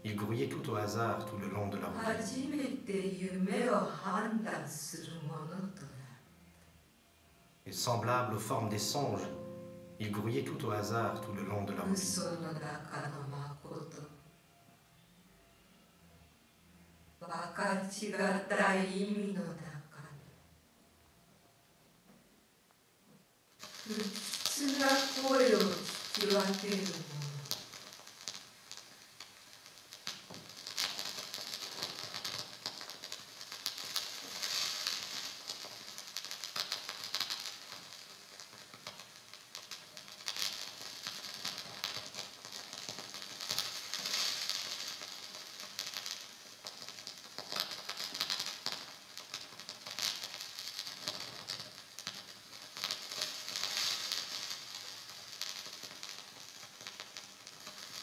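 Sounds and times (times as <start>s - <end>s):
crackling electronic noise music: 0.0s - 3.7s, 6.2s - 16.4s, 23.5s - 58.0s.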